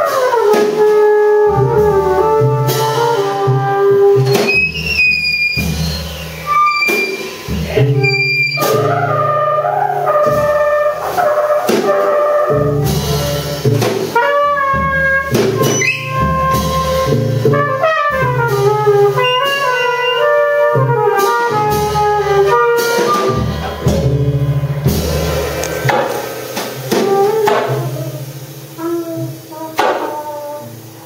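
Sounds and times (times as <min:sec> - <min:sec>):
saxophone: 0:00.0 - 0:24.0, 0:26.9 - 0:31.0
drum kit and cymbals: 0:00.0 - 0:31.0
trumpet: 0:00.0 - 0:31.0.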